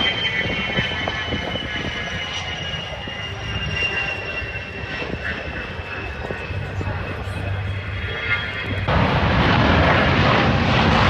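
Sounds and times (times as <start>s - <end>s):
plane flying past: 0.0s - 11.0s.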